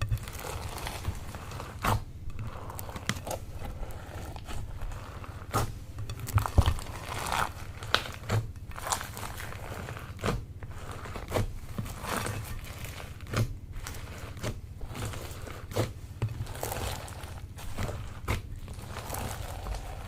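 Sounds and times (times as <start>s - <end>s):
crinkly crackle: 0.0s - 5.6s, 6.2s - 20.0s
slime squishing: 0.0s - 20.0s.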